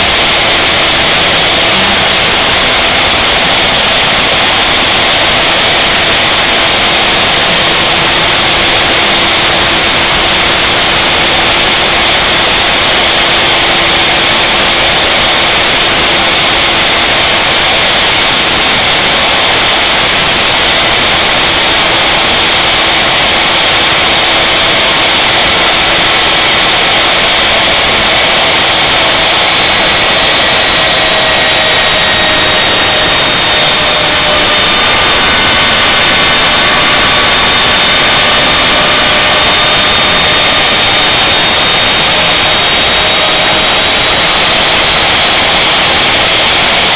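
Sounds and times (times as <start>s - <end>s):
wood router cutting wood: 0.0s - 46.9s.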